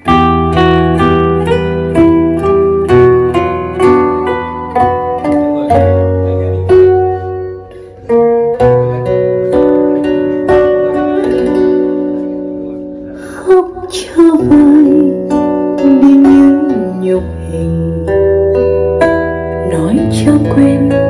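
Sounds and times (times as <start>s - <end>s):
plucked-string notes: 0.0s - 21.0s.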